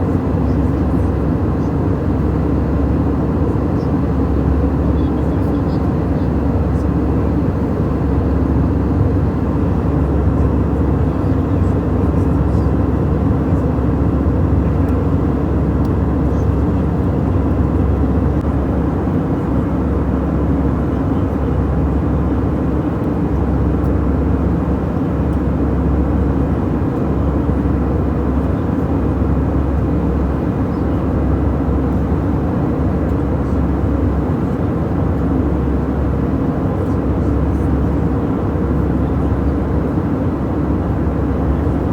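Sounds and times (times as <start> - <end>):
jet engine and airflow drone: 0.0 - 41.9.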